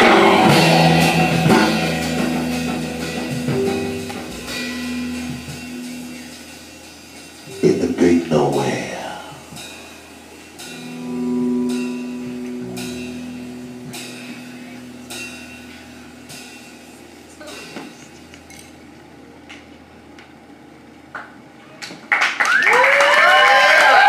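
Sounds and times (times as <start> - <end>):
held music chord: 0.0 - 19.4.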